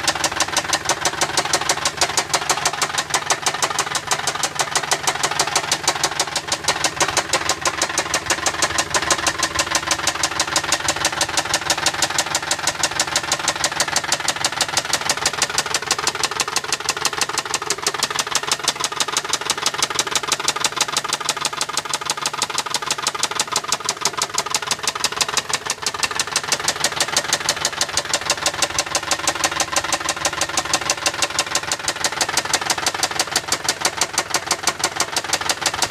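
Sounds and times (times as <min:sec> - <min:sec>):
car engine running with ticking: 0:00.0 - 0:35.9.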